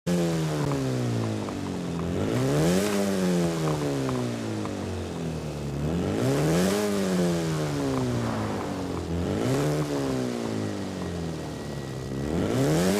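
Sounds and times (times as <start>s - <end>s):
car engine revving: 0.1s - 12.9s.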